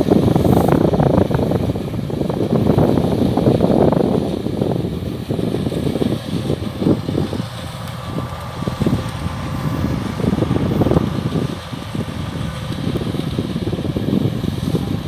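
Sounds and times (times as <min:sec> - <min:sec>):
combine harvester engine rumbling: 0:00.0 - 0:15.0.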